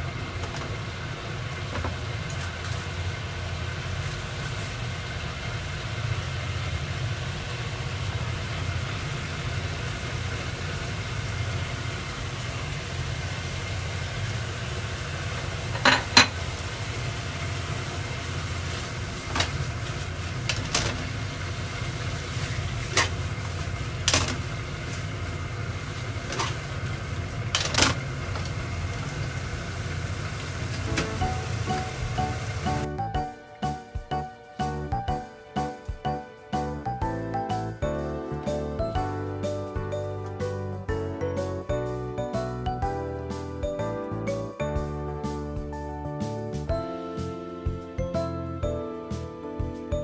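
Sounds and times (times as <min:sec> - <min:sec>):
light sizzling: 0:00.0 - 0:45.6.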